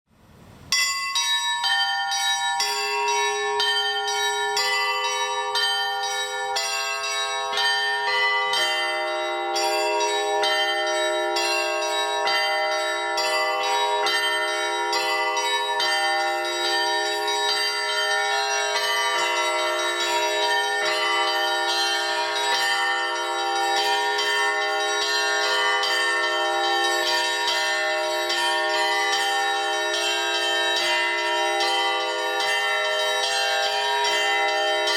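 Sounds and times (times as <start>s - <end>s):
church bells ringing: 0.7s - 34.9s.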